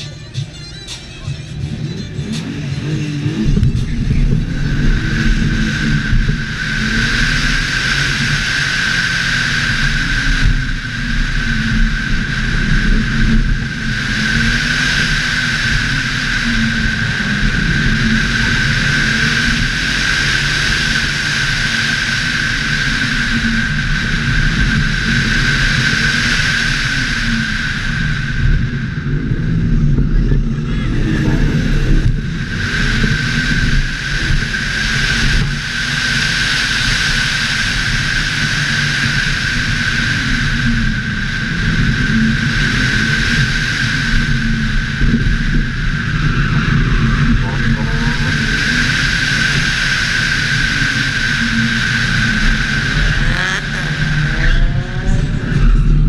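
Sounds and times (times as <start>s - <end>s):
steady high whine: 0.0s - 56.0s
car engine accelerating hard: 0.8s - 56.0s
wind rush on microphone: 1.5s - 56.0s.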